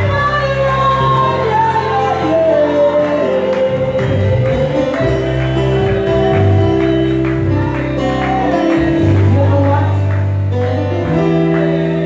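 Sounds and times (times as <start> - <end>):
people singing: 0.0 - 10.1, 11.0 - 12.0
bass line: 0.0 - 12.0
keyboard chords: 0.0 - 12.0.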